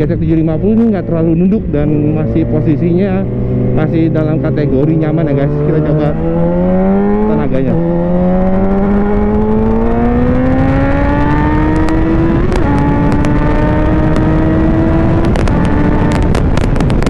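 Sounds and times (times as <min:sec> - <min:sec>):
motorcycle engine accelerating: 0:00.0 - 0:17.0
wind rumble on microphone: 0:00.0 - 0:17.0.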